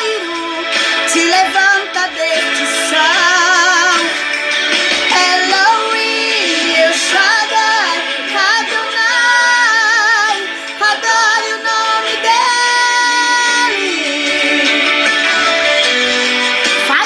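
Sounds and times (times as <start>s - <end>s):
woman singing with vibrato: 0.0s - 4.4s, 5.0s - 15.4s, 16.8s - 17.0s
musical accompaniment: 0.0s - 17.0s.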